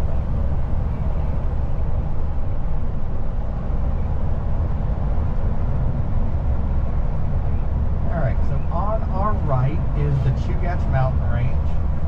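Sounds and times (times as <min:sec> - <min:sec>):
vehicle rumble from inside cabin: 0:00.0 - 0:12.0.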